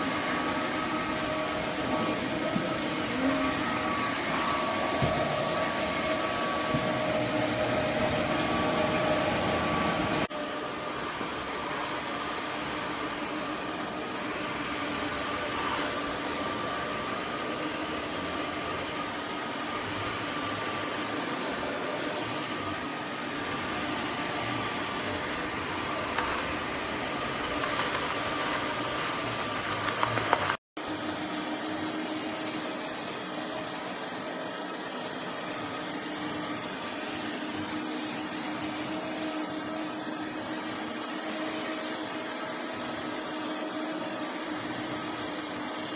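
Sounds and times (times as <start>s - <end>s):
vacuum cleaner whooshing: 0.0s - 45.9s.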